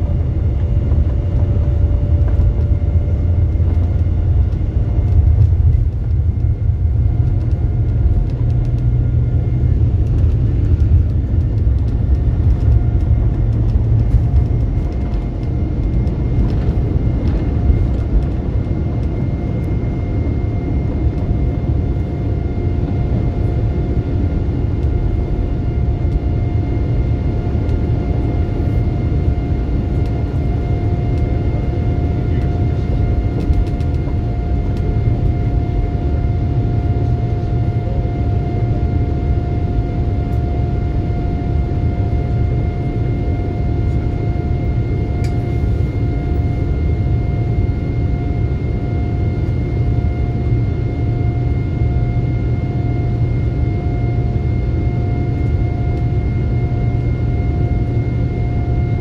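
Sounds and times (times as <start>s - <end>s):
constant whine: 0.0s - 59.0s
jet engine roar: 0.0s - 59.0s.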